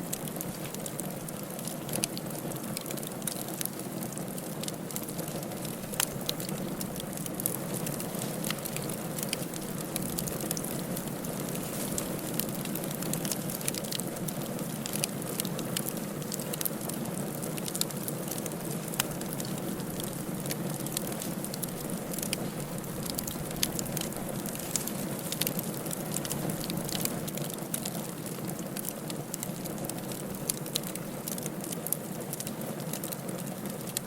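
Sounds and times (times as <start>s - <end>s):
firewood crackling in fireplace: 0.0s - 34.0s.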